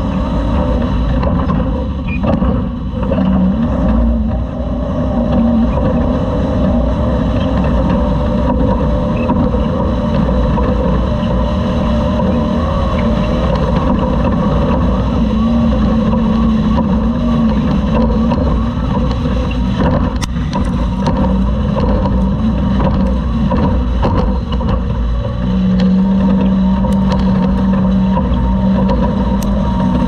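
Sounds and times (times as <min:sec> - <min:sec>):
race truck engine running hard: 0:00.0 - 0:30.0.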